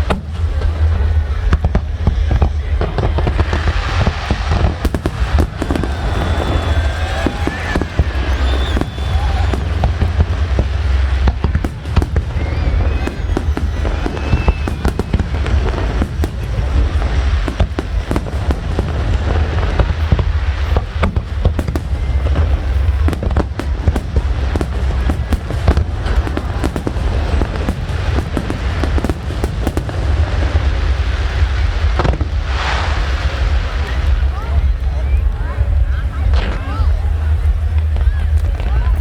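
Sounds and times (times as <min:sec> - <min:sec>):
deep rumble: 0:00.0 - 0:39.0
fireworks bangs and crackling: 0:00.0 - 0:39.0.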